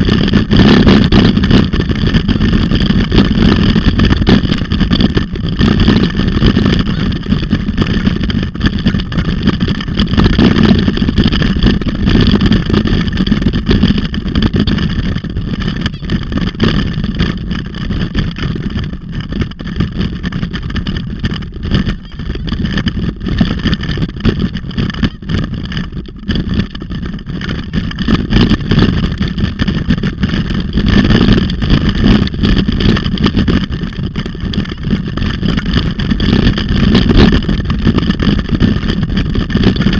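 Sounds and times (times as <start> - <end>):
camera rumbling and rattling: 0.0 - 39.9
wind buffeting microphone: 0.0 - 39.9.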